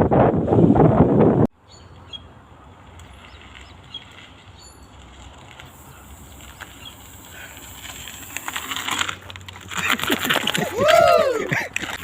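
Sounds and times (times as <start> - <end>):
low outdoor rumble: 1.6 - 12.0.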